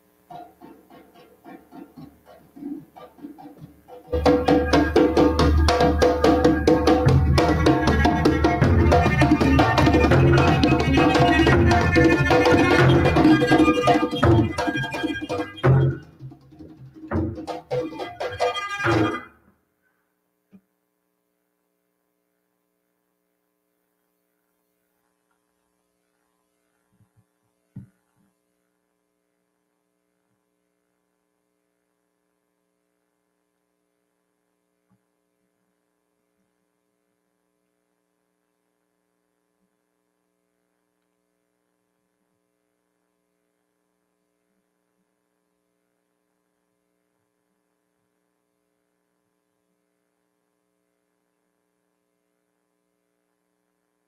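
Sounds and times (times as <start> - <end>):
faint electrical hum: 0.0 - 54.0.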